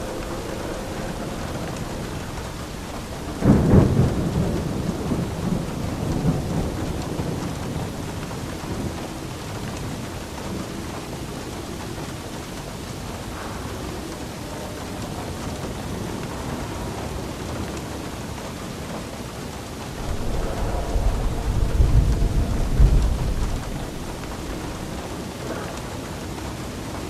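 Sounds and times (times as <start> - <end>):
steady rain: 0.0 - 27.0
thunder clap rumbling: 0.0 - 27.0.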